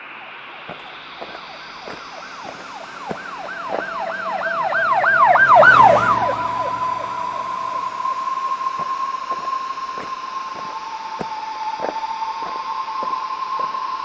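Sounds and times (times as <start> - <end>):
emergency vehicle siren yelping: 0.1 - 14.0.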